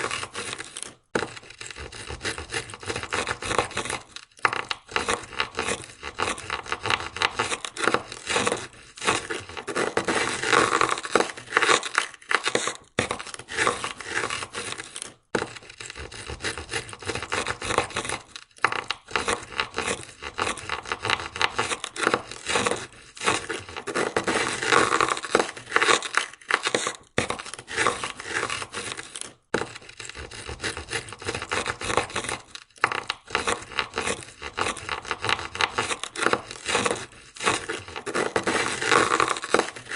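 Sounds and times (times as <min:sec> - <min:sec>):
ice scraper scraping car window: 0:00.0 - 0:39.9.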